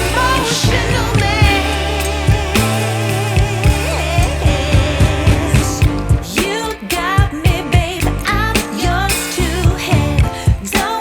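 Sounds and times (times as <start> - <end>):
person singing: 0.0 - 11.0
pop music with drum beat: 0.0 - 11.0.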